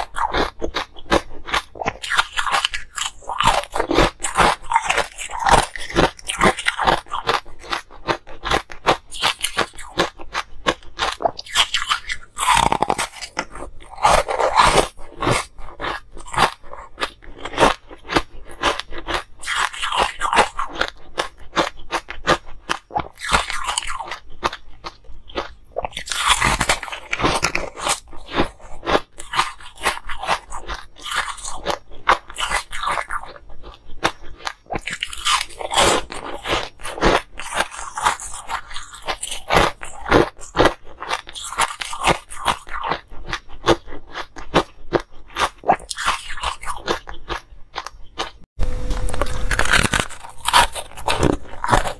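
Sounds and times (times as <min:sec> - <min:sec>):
ice crunching between teeth: 0:00.0 - 0:51.9.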